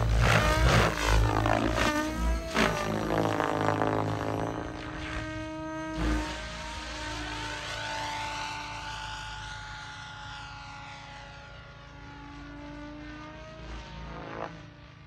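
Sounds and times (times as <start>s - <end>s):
model helicopter rotor whine: 0.0s - 15.0s.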